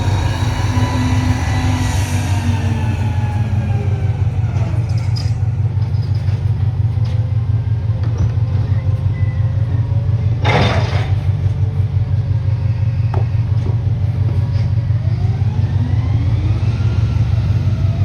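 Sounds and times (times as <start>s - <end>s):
garbage truck engine rumbling: 0.0s - 18.0s.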